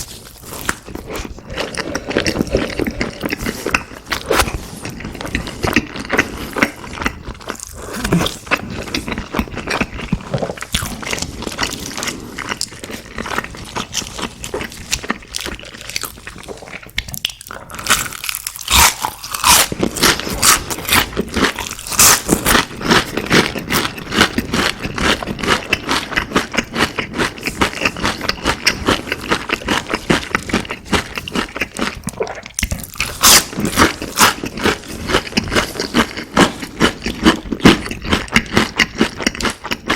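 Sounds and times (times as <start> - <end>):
person chewing crispy food: 0.0 - 39.9.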